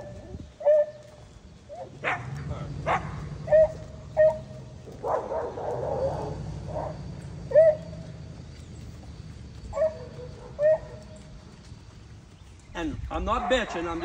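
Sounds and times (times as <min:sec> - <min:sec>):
animal calling: 0:00.0 - 0:11.5.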